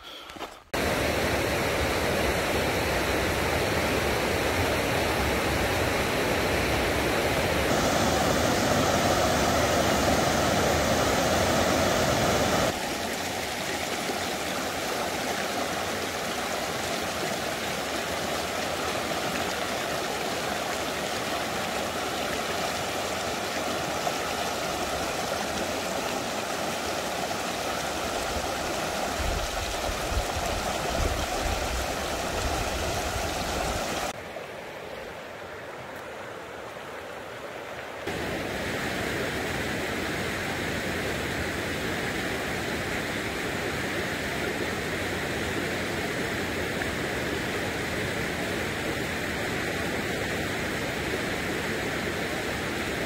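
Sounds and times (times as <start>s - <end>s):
creek rushing over rocks: 0.4s - 53.0s.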